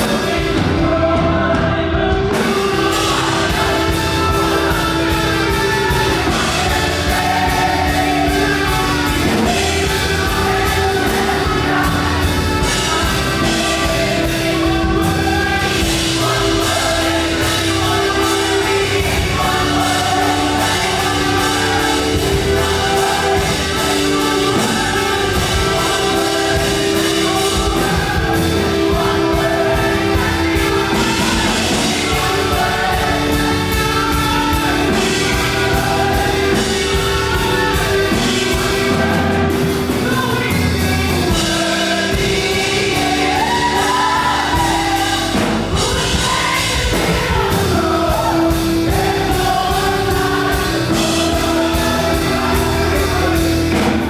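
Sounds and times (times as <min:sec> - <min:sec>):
gospel singers with band: 0:00.0 - 0:54.0.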